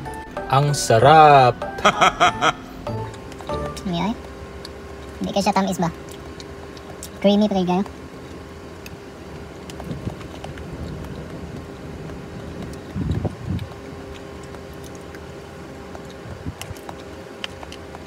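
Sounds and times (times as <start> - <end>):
low hum in car: 0.0 - 18.0.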